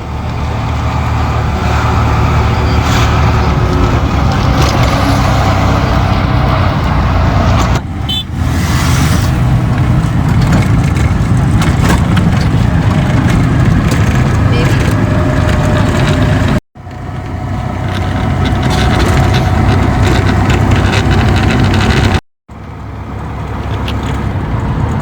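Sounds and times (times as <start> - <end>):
road and wind noise: 0.0 - 25.0
road vehicle rumble: 0.0 - 25.0.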